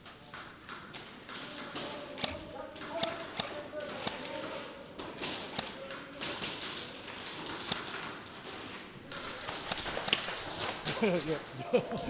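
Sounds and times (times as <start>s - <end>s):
sharp taps and clicks: 0.1s - 8.2s, 9.0s - 11.3s.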